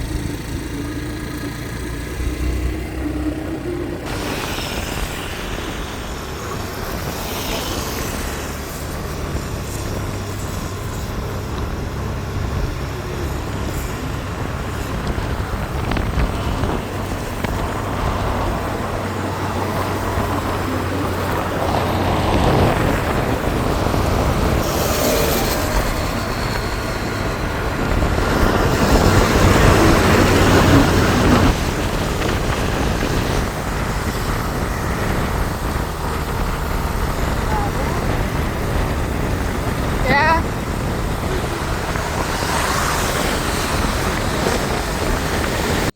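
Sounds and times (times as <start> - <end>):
low engine hum: 0.0 - 45.9
rushing traffic wash: 0.0 - 45.9.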